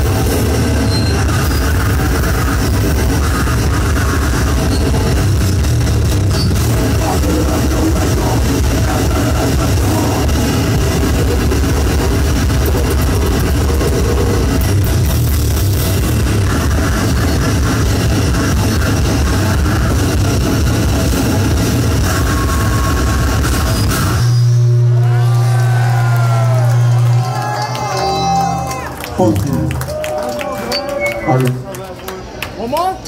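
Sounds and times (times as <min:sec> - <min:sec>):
heavy rock band playing: 0:00.0 - 0:30.0.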